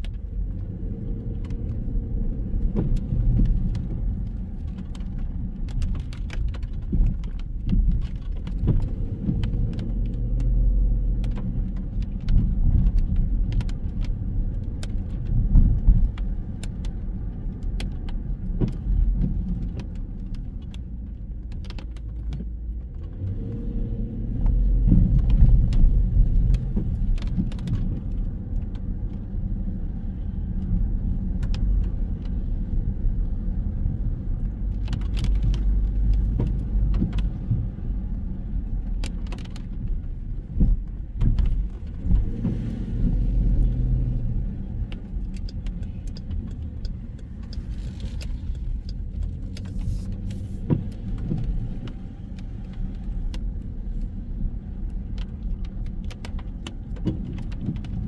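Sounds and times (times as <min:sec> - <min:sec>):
cars rumbling: 0:00.0 - 0:58.0.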